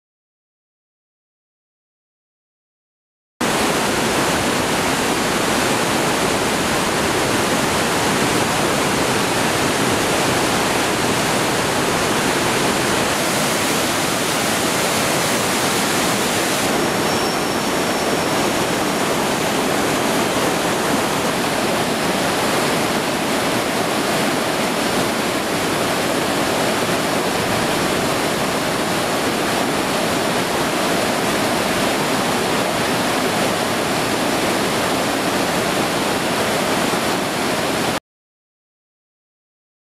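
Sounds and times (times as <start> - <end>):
water rushing over weir: 3.4 - 38.0.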